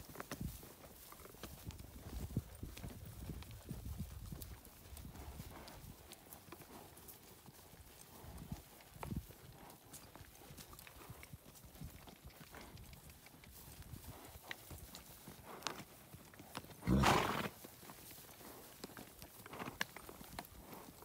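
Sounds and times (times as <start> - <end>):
horses hoofbeats on grass: 0.0 - 21.0.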